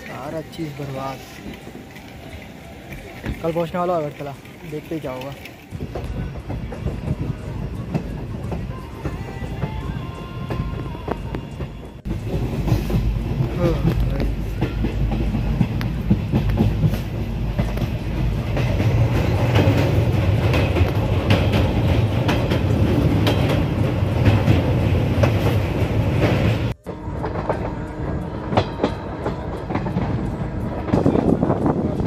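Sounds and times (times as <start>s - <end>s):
clickety-clack of train wheels: 0.0s - 32.0s
train rumble: 0.0s - 32.0s.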